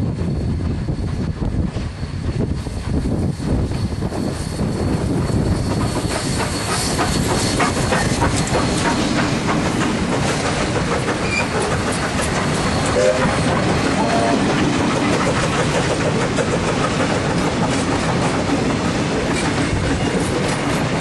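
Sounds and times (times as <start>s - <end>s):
steam locomotive rumble: 0.0s - 21.0s
train wheels clicking and clattering: 0.0s - 21.0s.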